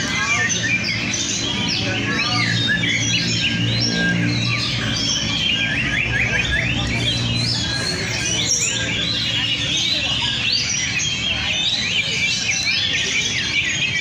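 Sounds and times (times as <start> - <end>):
birds chirping and whistling: 0.0 - 14.0.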